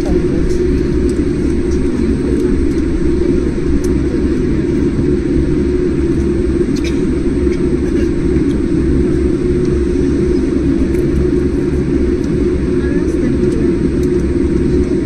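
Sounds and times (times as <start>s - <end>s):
jet engine and airflow rumble: 0.0s - 15.0s.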